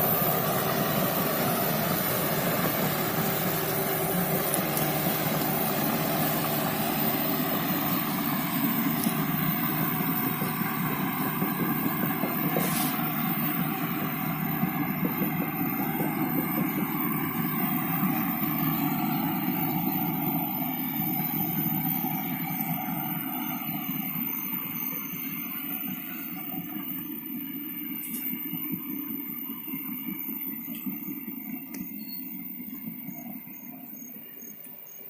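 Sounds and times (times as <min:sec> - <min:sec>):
heavy machine diesel engine running: 0:00.0 - 0:35.0.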